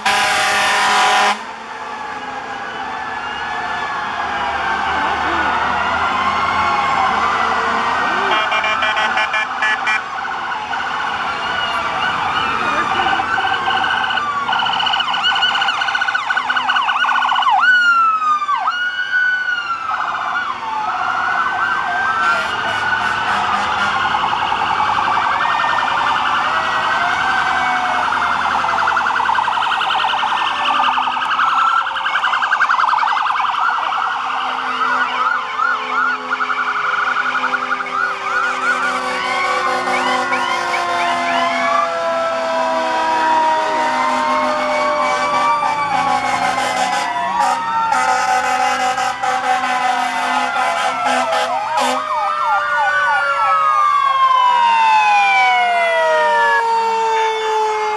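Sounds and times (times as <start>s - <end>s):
emergency sirens wailing: 0.0s - 57.9s
siren sliding down in pitch: 0.0s - 57.9s.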